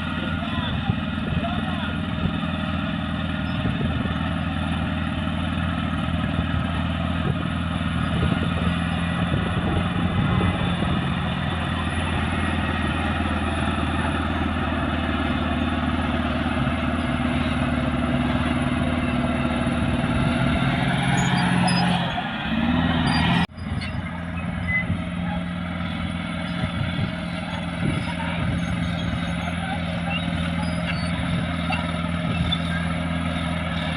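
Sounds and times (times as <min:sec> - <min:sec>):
bulldozer diesel engine drone: 0:00.0 - 0:33.9.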